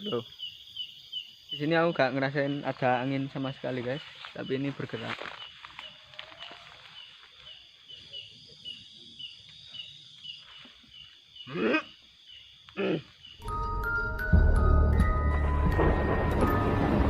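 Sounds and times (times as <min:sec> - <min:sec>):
night insects chirping: 0:00.0 - 0:17.0.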